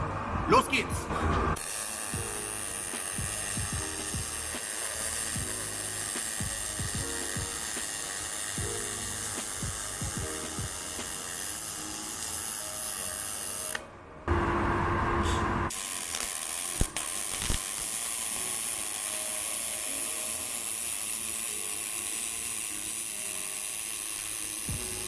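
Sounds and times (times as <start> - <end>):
welding arc buzzing crackle: 1.6 - 13.9, 15.7 - 25.0.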